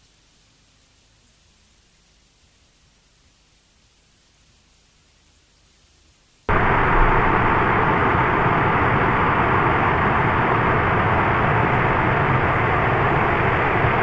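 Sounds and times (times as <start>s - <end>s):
loud static-like noise: 0.0s - 14.0s.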